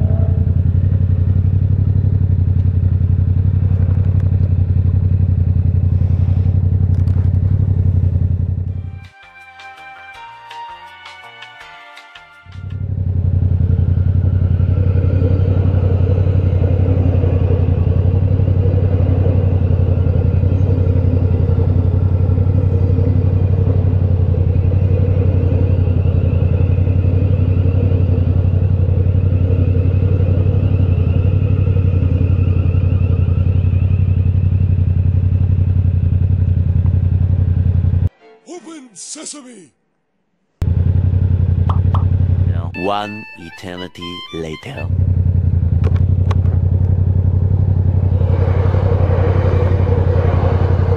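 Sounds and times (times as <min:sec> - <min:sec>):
motorcycle engine cruising: 0:00.0 - 0:08.9, 0:12.6 - 0:38.1, 0:40.6 - 0:43.0, 0:44.4 - 0:50.9.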